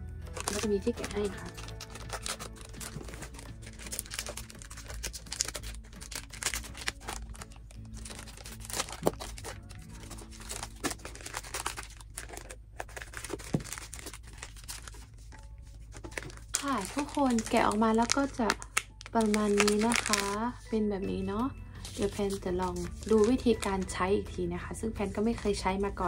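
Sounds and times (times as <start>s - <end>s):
plastic packet crinkling and tearing: 0.2s - 20.4s, 21.8s - 23.9s.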